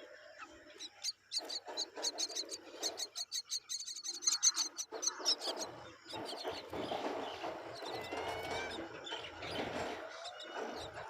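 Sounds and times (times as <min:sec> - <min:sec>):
chicks chirping harshly: 0:00.4 - 0:11.0.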